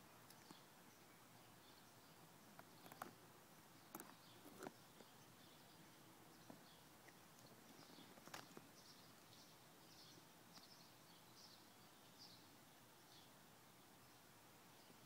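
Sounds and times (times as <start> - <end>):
bird chirping faintly: 0.0 - 15.0.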